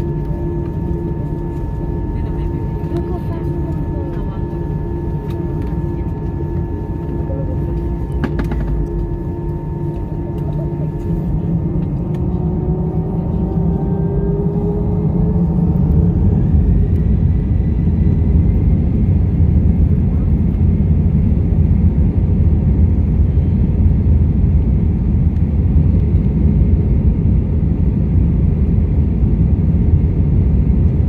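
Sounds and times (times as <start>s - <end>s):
jet engines rumbling and whining: 0.0s - 31.0s.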